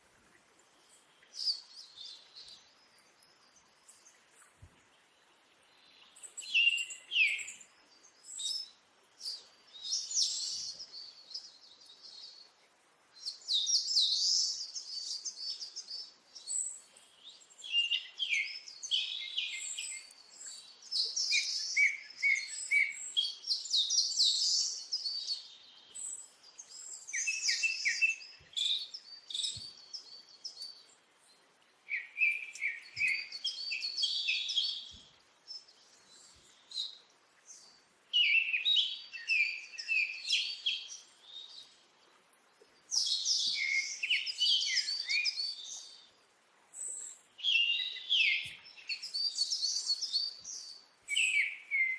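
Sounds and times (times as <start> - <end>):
birds chirping and trilling: 5.7 - 12.5, 13.2 - 46.1, 46.8 - 51.9.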